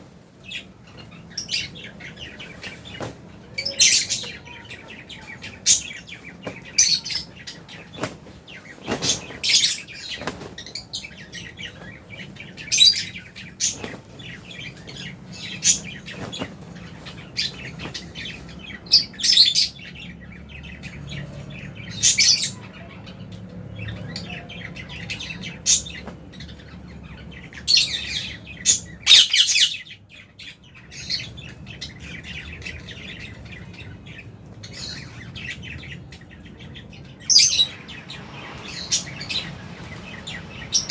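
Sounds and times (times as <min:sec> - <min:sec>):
lovebirds chirping: 0:00.0 - 0:40.9.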